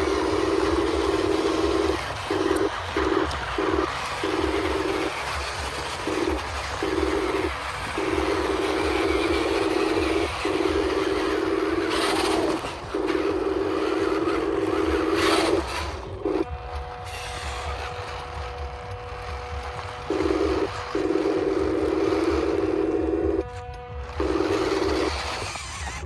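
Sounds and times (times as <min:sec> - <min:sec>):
faint steady hum: 0:00.0 - 0:26.0
small electric motors whining: 0:00.0 - 0:26.0.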